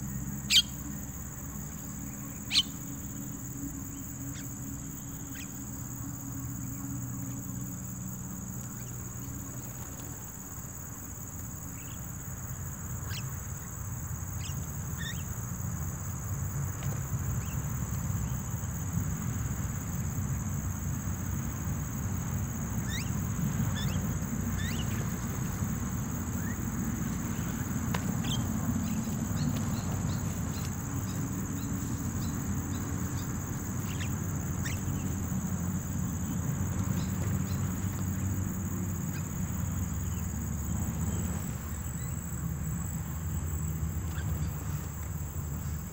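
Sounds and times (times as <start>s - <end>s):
high-pitched insect drone: 0.0s - 16.5s, 17.4s - 44.6s.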